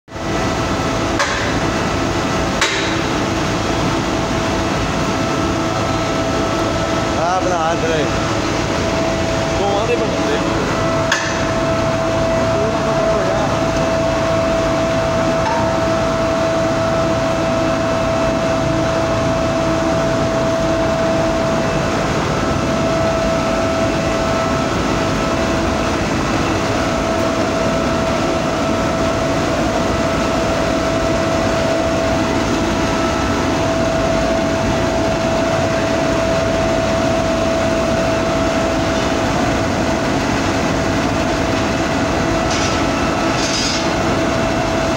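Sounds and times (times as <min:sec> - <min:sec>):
machinery drone: 0:00.1 - 0:44.9
mid-pitched whine: 0:00.1 - 0:44.9.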